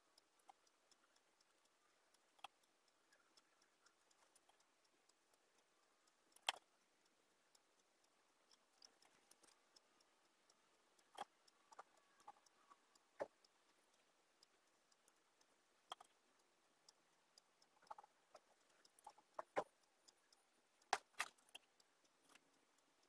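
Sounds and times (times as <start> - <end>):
small wooden parts clicking: 0.0 - 23.0.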